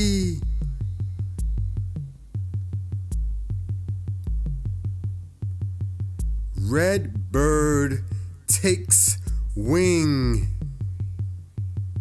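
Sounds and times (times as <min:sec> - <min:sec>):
electronic music with drum machine beat: 0:00.0 - 0:12.0.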